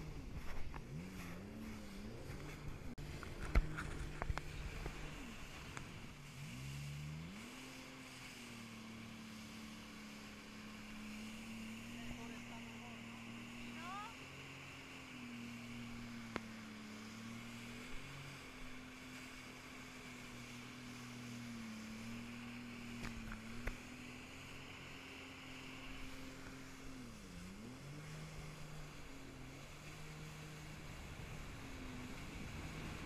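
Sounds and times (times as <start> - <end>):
jet ski engine droning: 0.0 - 33.0.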